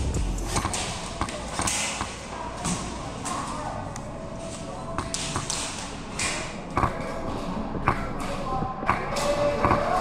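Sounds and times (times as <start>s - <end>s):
people talking in a hall: 0.0s - 10.0s.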